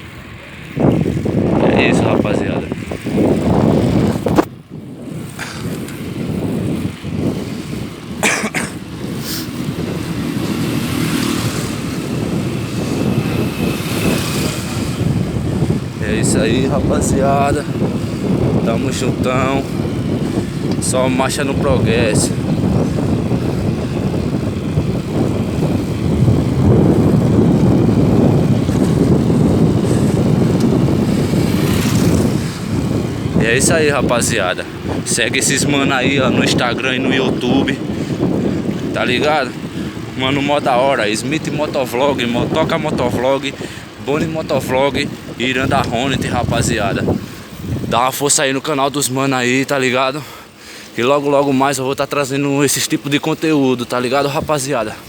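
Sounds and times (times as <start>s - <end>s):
road noise: 0.0s - 55.0s
wind on microphone: 0.0s - 55.0s.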